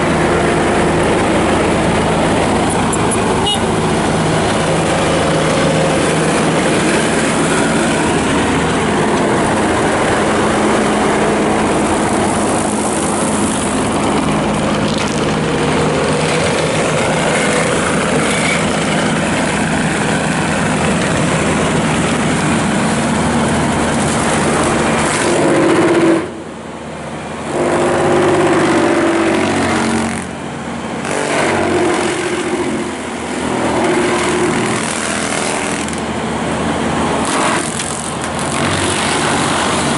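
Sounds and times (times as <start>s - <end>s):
brush cutter mulching brush: 0.0s - 26.4s, 27.3s - 39.9s
skid steer engine running hard: 0.0s - 39.9s.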